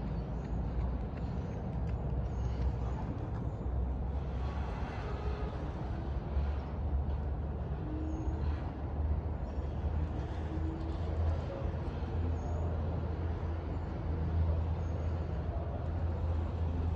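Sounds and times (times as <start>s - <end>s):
gondola low rumble: 0.0s - 16.9s.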